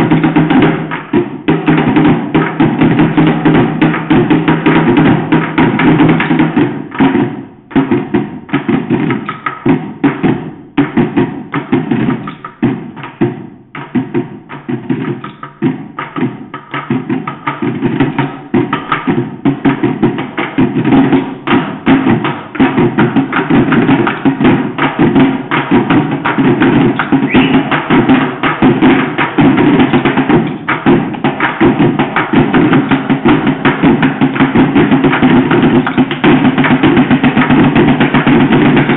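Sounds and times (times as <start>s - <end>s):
drumming with sticks on buckets: 0.0s - 38.9s.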